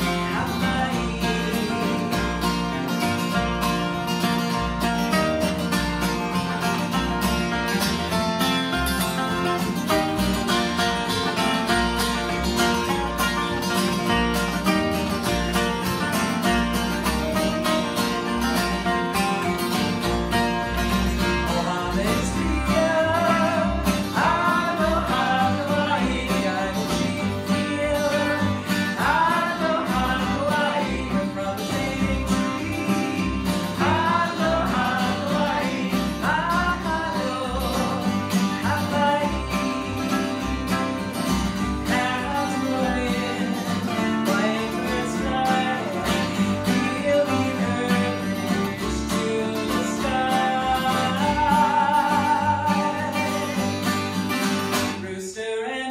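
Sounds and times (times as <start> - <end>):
strummed acoustic guitars: 0.0 - 55.9.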